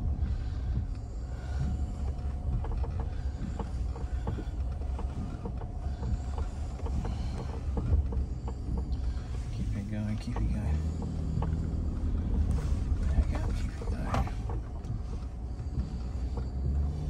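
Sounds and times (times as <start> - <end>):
knocks and rattles over bumps: 0.0 - 17.0
vehicle engine rumble: 0.0 - 17.0.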